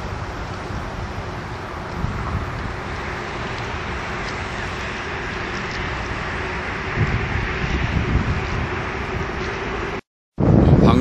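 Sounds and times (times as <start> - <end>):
traffic rumble: 0.0 - 11.0
wind buffeting microphone: 0.0 - 11.0.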